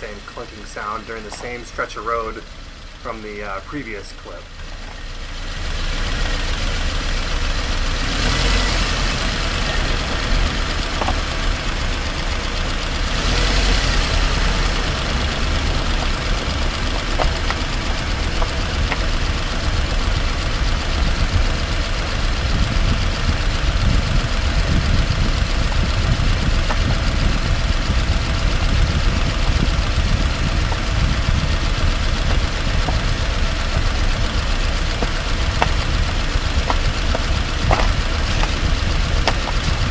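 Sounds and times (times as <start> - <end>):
wheel clunking: 0.0 - 5.2, 8.8 - 39.9
road tyre and engine noise: 0.0 - 39.9.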